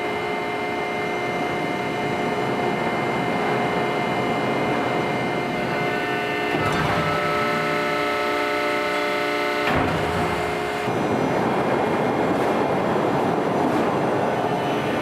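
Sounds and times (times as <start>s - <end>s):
machine mechanical whine: 0.0s - 15.0s.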